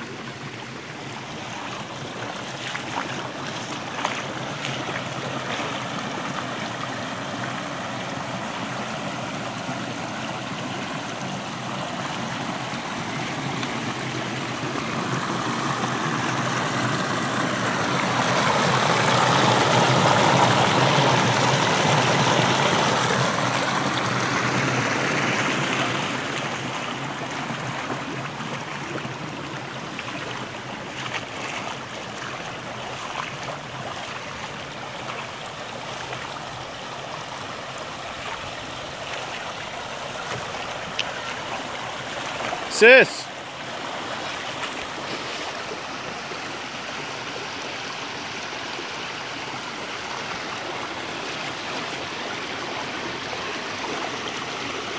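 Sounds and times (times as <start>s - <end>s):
creek water rippling over stones: 0.0s - 54.9s.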